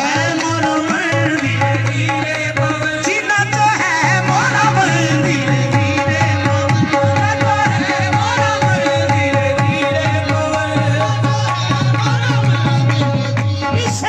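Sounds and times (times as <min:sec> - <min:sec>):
harmonium: 0:00.0 - 0:14.0.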